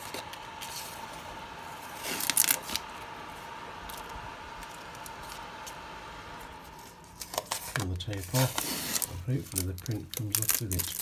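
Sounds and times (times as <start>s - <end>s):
high-pitched hum: 0.0s - 9.3s.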